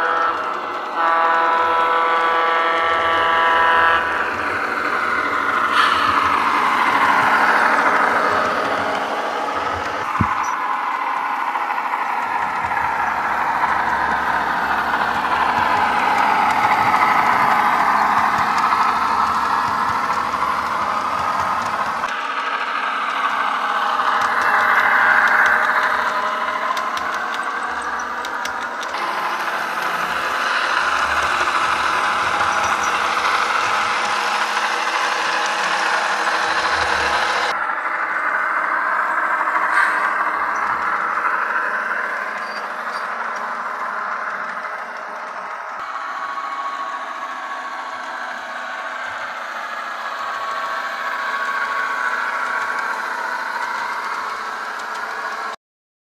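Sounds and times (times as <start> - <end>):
model train diesel engine sound: 0.0 - 55.6.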